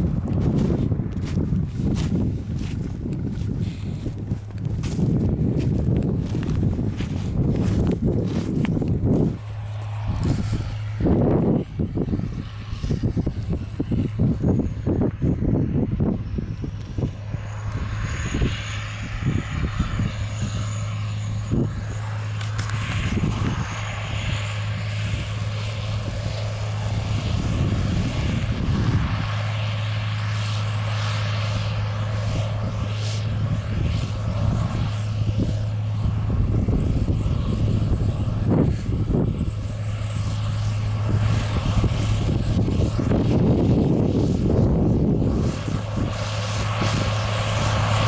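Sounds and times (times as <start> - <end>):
tractor diesel engine drone: 0.0 - 48.0.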